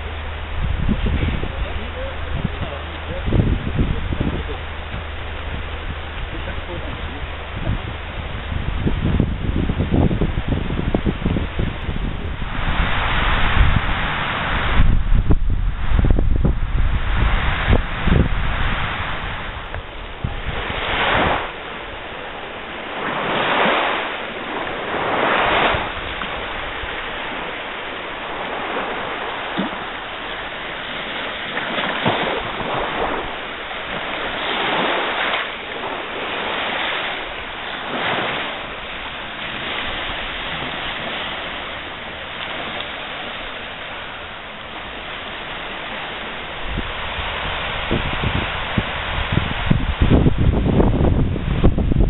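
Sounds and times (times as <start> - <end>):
surf washing onto beach: 0.0 - 52.0
wind on microphone: 0.0 - 52.0.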